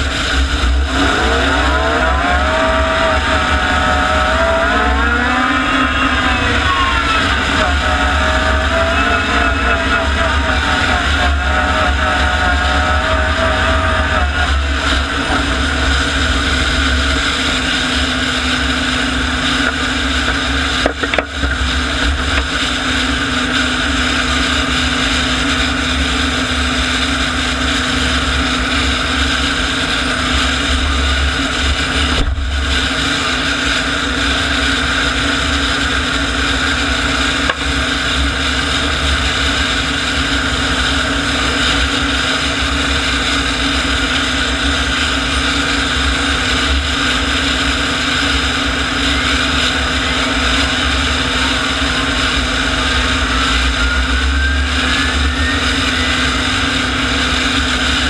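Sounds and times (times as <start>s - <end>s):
turbine engine whine: 0.0s - 58.0s.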